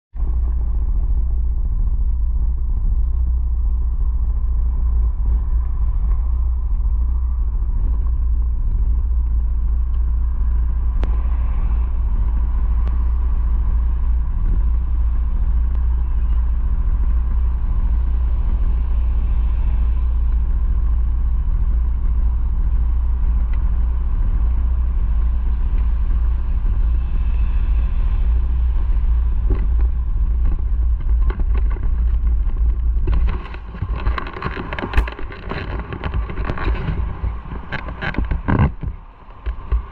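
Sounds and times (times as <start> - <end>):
motorcycle engine rumbling: 0.1 - 39.9.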